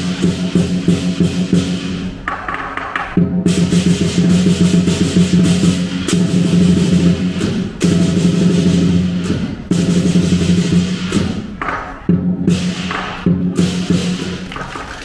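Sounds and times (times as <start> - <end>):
big drum beaten in fast rolls: 0.0 - 14.7.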